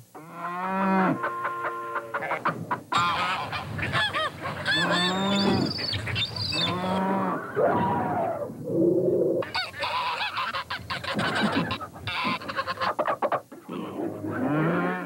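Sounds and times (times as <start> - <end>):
geese honking: 0.2 - 7.6, 9.4 - 15.0.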